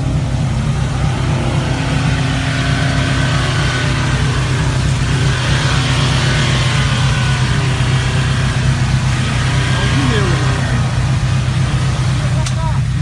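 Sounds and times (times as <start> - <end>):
vehicle engine running loudly: 0.0 - 13.0.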